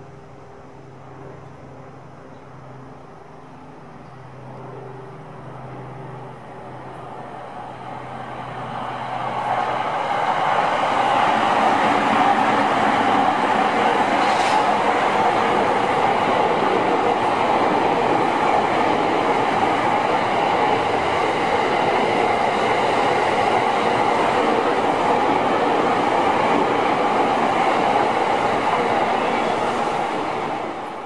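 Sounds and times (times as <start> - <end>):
electric trains passing: 0.0 - 31.0.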